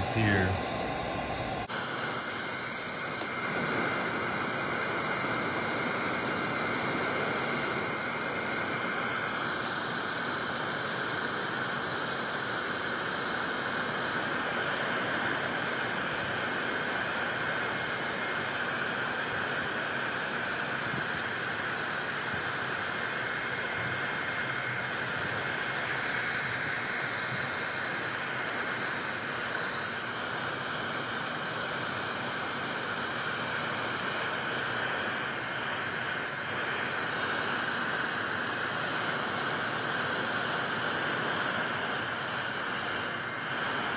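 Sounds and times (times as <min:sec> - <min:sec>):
heat gun blowing with whine: 0:00.0 - 0:43.9.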